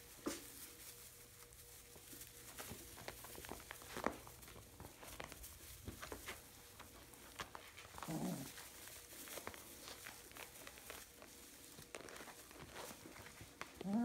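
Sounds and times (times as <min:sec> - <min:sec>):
small ticks and pattering: 0:00.0 - 0:14.0
straw rustling and crackling: 0:00.0 - 0:14.0.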